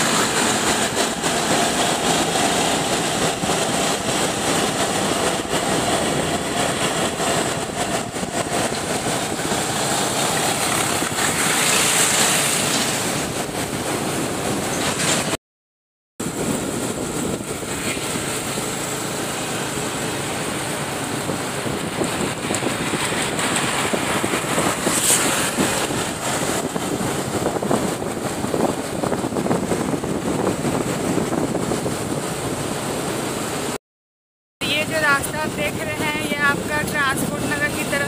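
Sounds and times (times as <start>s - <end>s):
motorcycle road noise: 0.0s - 15.4s, 16.2s - 33.8s
wind buffeting microphone: 0.0s - 15.4s, 16.2s - 33.8s, 34.7s - 38.0s.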